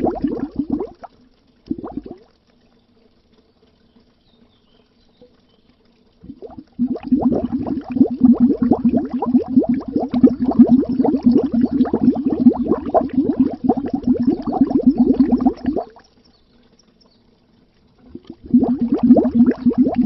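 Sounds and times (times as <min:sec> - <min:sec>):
underwater bubbling: 0:00.0 - 0:04.2, 0:04.9 - 0:20.0.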